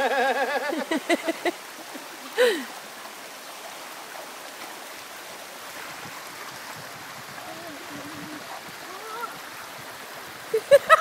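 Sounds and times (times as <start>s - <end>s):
stream rushing over rock: 0.0s - 11.0s.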